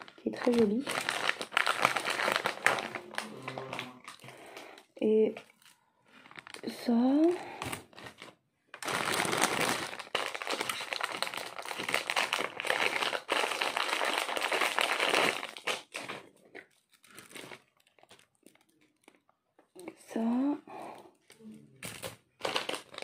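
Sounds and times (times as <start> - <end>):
plastic bag crinkling: 0.0 - 19.9, 20.9 - 23.0.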